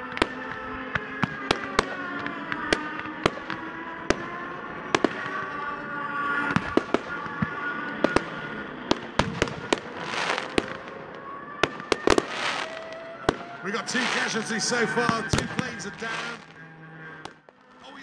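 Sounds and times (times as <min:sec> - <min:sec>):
fireworks bangs: 0:00.0 - 0:18.0
model aircraft engines droning: 0:00.0 - 0:18.0.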